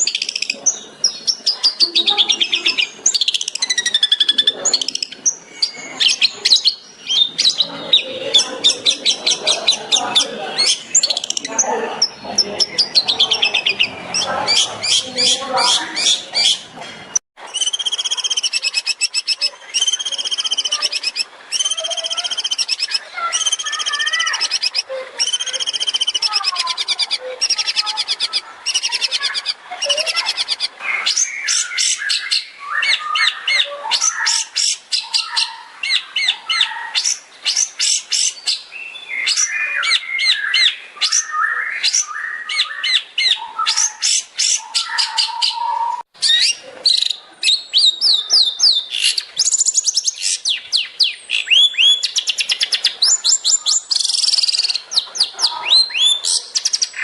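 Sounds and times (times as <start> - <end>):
bird singing loudly: 0.0 - 16.8, 17.4 - 57.0
bird chattering notes: 0.0 - 57.0.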